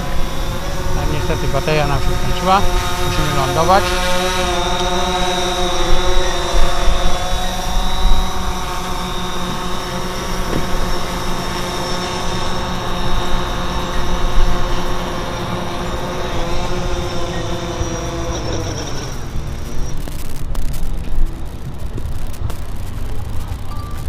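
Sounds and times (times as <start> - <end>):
drone propellers whining: 0.0 - 24.0
low wind rumble: 0.0 - 24.0.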